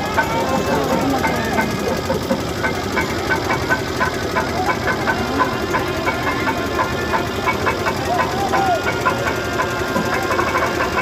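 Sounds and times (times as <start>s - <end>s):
engine running steadily: 0.0s - 11.0s
faint crowd voices: 0.0s - 11.0s.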